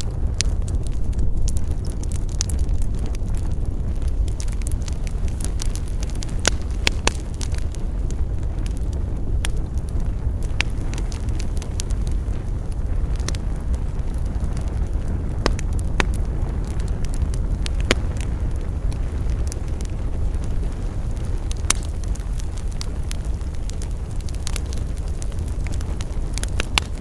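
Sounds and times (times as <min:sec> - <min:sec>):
campfire crackling and popping: 0:00.0 - 0:27.0
steady low rumble: 0:00.0 - 0:27.0.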